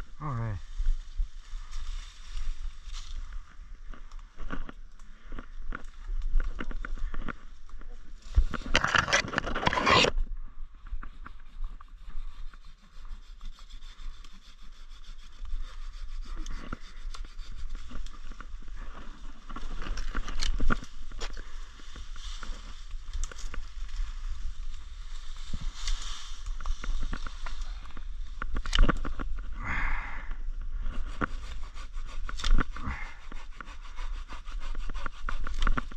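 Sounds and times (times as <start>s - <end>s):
brush and leaves rustling: 0.0s - 10.2s, 10.8s - 35.9s.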